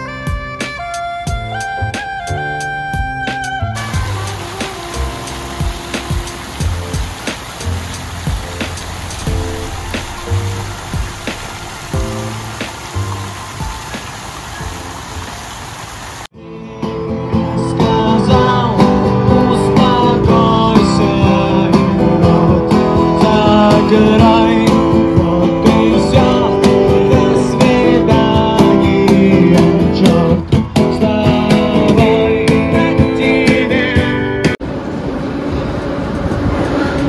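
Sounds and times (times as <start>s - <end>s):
acoustic guitar music with beat: 0.0s - 14.1s, 16.4s - 34.6s.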